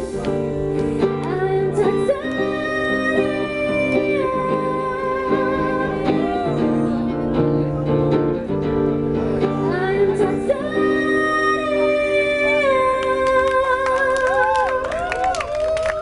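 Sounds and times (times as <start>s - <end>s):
woman singing: 0.0s - 7.1s, 9.4s - 16.0s
strummed acoustic guitar: 0.0s - 13.6s.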